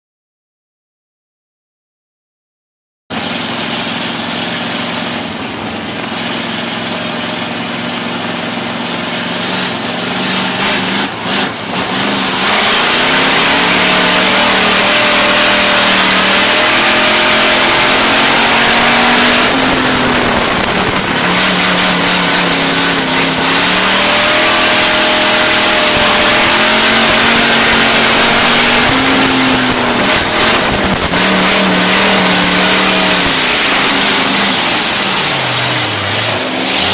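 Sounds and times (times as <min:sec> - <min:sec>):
race car engine revving: 0:03.1 - 0:36.9.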